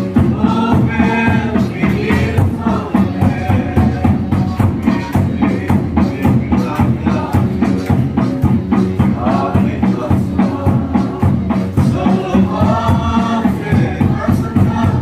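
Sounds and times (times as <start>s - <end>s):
congregation singing: 0.0s - 15.0s
steady drum beat: 0.0s - 15.0s.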